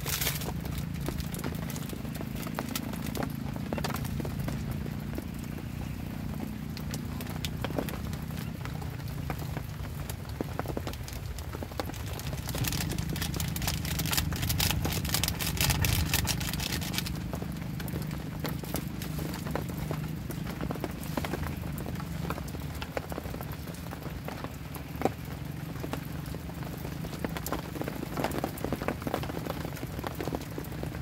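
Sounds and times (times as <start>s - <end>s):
heavy rain on tent: 0.0s - 31.0s.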